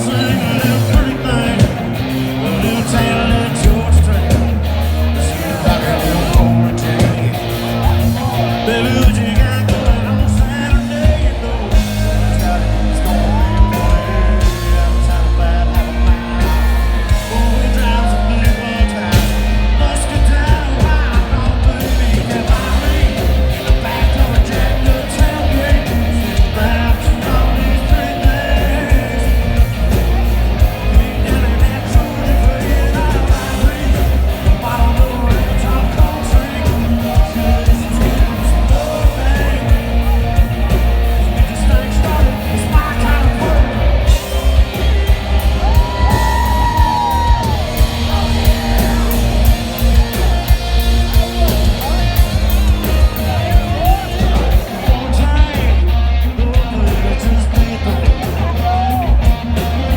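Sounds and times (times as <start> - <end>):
country-rock band playing live: 0.0 - 59.9
crowd yelling and singing along: 0.0 - 59.9
person singing: 0.0 - 59.9.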